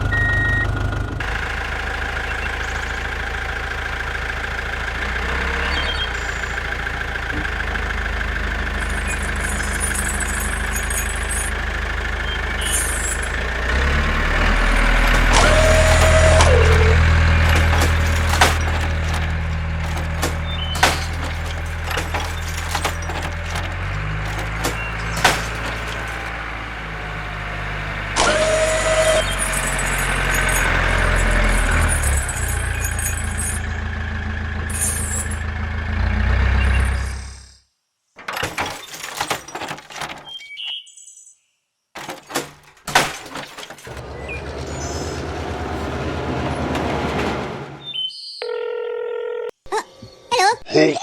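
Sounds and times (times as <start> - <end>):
vehicle engine droning: 0.0 - 37.6, 43.6 - 48.0.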